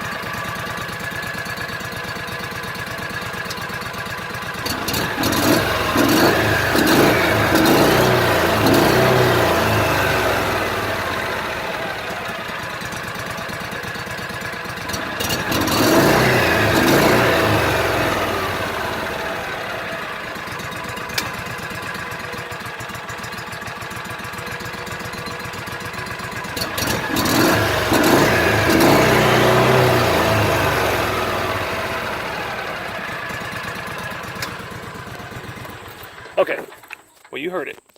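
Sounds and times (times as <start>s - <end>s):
engine revving: 2.9s - 23.1s, 24.2s - 36.7s.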